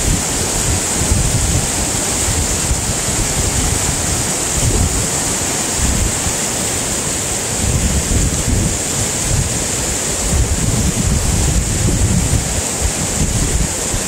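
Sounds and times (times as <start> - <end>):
stream water rushing: 0.0 - 14.0
wind buffeting microphone: 0.0 - 14.0.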